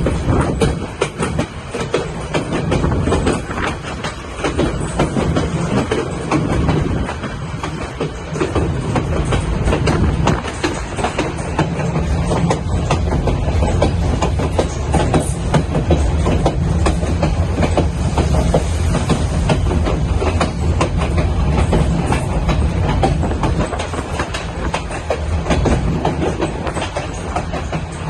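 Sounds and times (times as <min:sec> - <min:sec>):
train rumbling on rails: 0:00.0 - 0:28.0
wheels clattering over track: 0:00.0 - 0:28.0.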